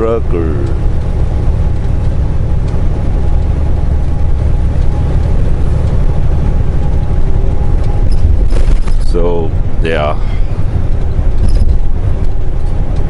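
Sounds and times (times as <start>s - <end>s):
diesel truck engine rumble: 0.0s - 13.0s
road noise: 0.0s - 13.0s.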